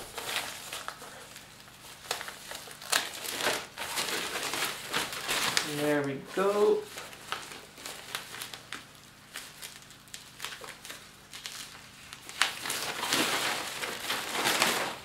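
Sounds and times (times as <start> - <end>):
plastic wrap crinkling: 0.0 - 15.0.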